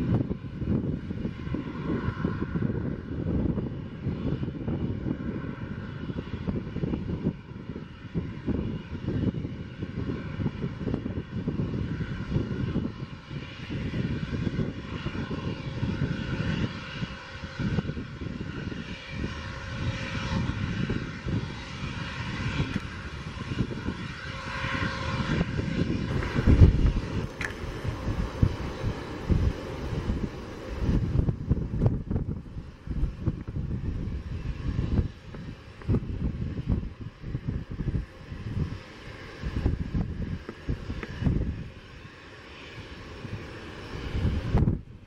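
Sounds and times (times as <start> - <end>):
gusty low rumble: 0.0 - 45.0
jet engine whine: 0.0 - 45.0.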